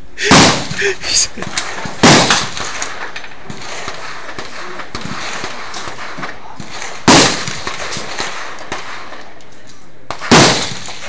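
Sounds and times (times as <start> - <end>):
rifle shot: 0.2 - 9.4, 10.1 - 11.0.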